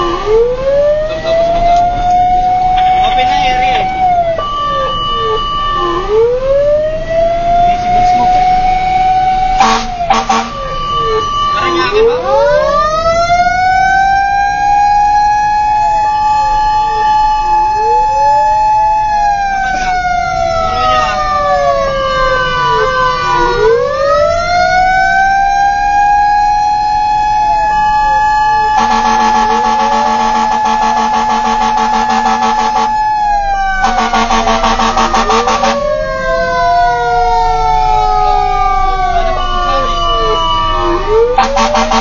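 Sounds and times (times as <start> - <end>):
fire truck wail siren: 0.0 - 42.0.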